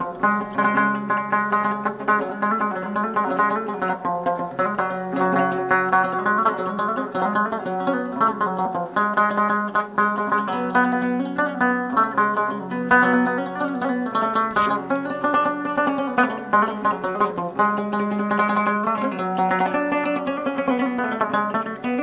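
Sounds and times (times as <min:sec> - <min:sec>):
rabab plucked notes: 0:00.0 - 0:22.0.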